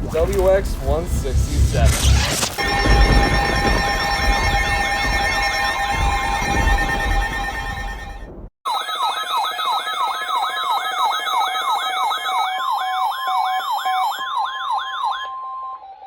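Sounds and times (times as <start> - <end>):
steady alarm tone: 1.4 - 16.0
siren alarm tone sweeping: 1.5 - 16.0.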